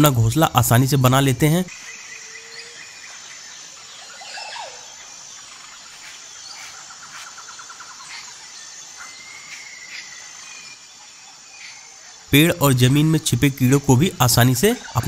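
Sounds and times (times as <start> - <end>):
high insect drone: 0.0 - 15.0
small birds chirping: 0.0 - 15.0.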